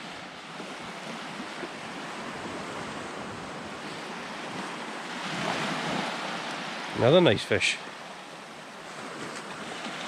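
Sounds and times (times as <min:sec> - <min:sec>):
surf washing onto shore: 0:00.0 - 0:10.0.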